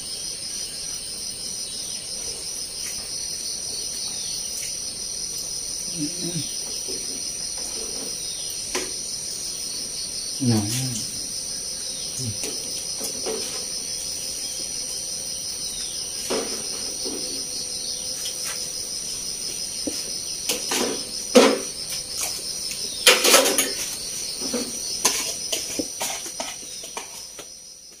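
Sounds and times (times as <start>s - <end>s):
insect chirring: 0.0s - 28.0s.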